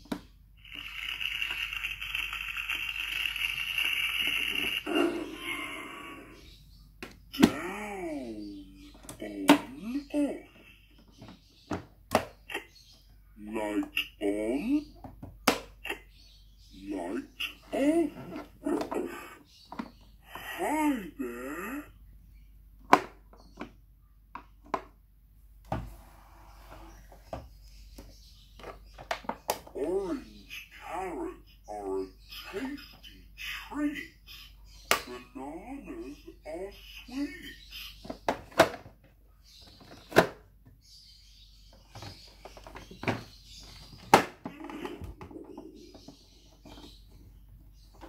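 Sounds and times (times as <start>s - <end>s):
faint bird chirping: 0.0s - 48.0s.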